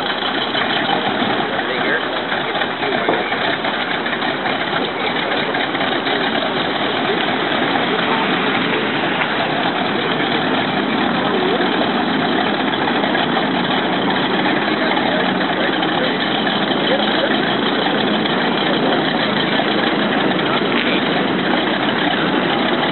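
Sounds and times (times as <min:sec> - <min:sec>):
radial aircraft engine idling: 0:00.0 - 0:22.9.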